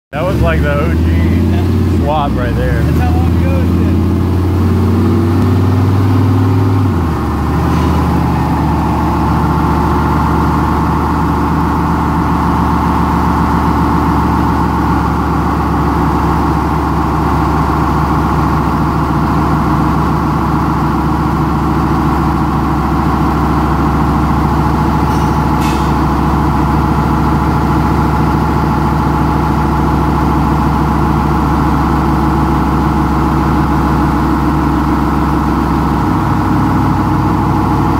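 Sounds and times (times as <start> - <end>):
turbocharged engine running: 0.1 - 37.9.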